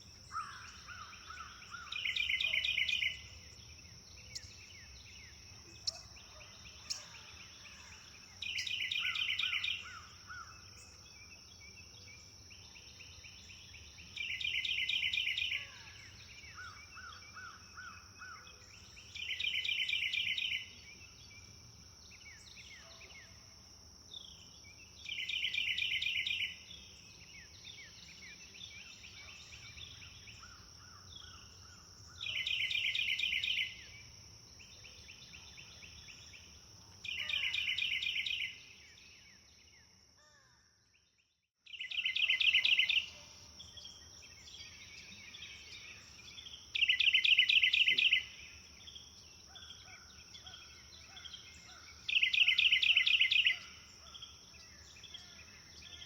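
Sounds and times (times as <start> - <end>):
songbird rapid trill: 0.0 - 21.5, 24.3 - 39.5, 41.7 - 56.0
faint bird chirps: 0.0 - 56.0.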